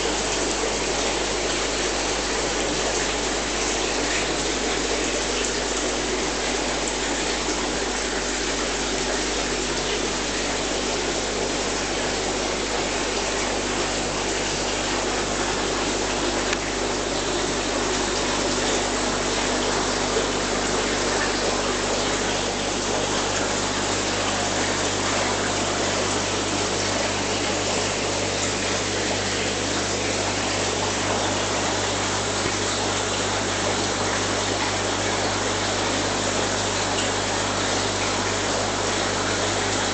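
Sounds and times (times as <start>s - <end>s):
water rushing through aquarium filters: 0.0s - 39.9s.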